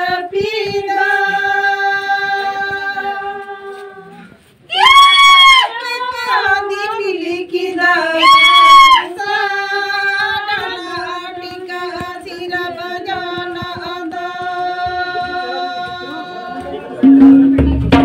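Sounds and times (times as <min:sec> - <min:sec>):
hand-drum strokes: 0:00.0 - 0:05.2, 0:06.1 - 0:18.0
women singing together: 0:00.0 - 0:17.1.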